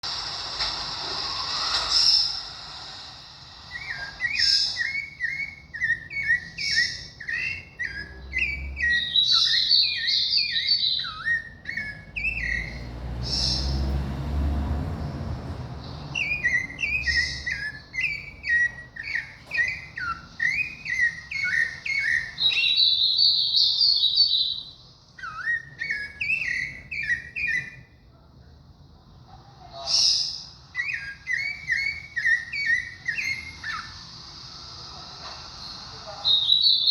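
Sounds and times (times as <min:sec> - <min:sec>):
thrush singing whistled notes: 0:01.4 - 0:14.3, 0:15.8 - 0:27.9, 0:30.0 - 0:34.5.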